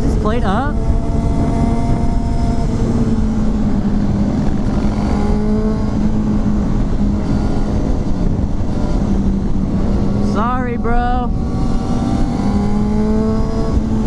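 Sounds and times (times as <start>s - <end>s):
motorcycle engine cruising: 0.0s - 14.0s
rushing wind noise: 0.0s - 14.0s.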